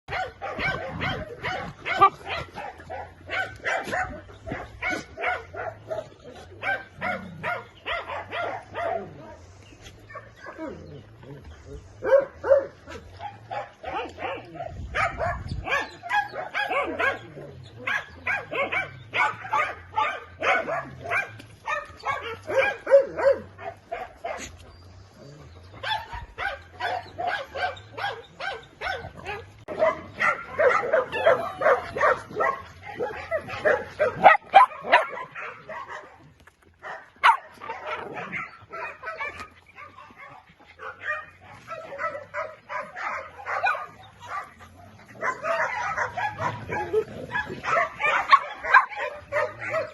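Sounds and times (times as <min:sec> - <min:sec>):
dog barking and yipping: 0:00.1 - 0:09.3, 0:12.0 - 0:24.5, 0:25.2 - 0:49.9.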